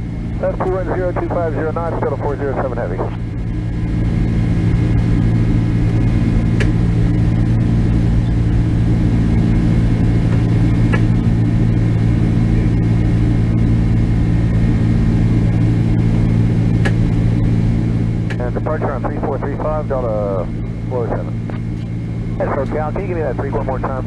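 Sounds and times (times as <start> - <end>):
airplane cabin rumble: 0.0 - 24.0
faint high whine: 0.0 - 24.0
low engine hum: 0.0 - 24.0.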